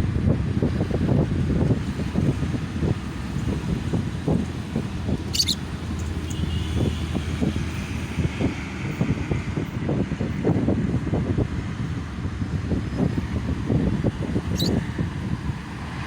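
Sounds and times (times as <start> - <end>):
road traffic noise: 0.0 - 16.0
wind buffeting microphone: 0.0 - 16.0.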